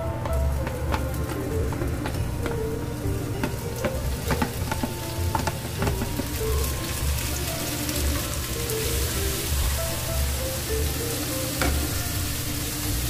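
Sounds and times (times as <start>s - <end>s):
vegetables sizzling in a wok: 0.0s - 13.0s
wooden spatula scraping a pan: 0.0s - 13.0s.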